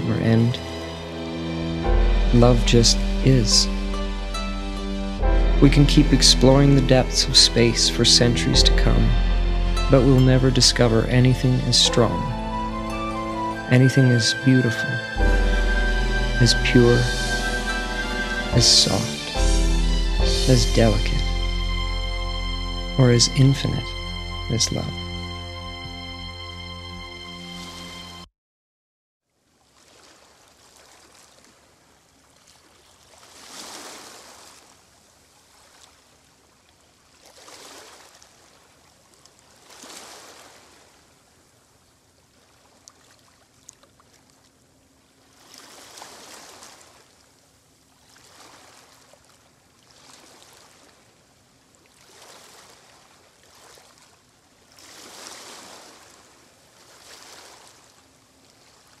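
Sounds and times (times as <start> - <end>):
gentle waves washing in: 0.0 - 22.2, 29.4 - 59.0.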